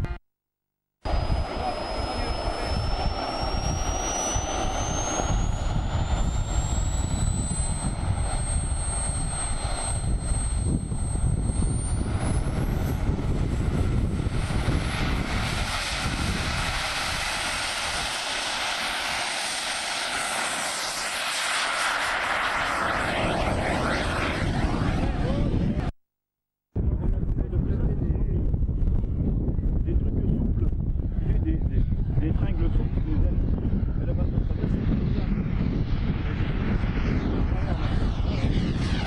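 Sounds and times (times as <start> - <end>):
wind buffeting microphone: 1.1 - 21.2, 22.5 - 25.9, 26.8 - 39.0
high whine rising in pitch: 1.1 - 26.0, 32.4 - 39.0.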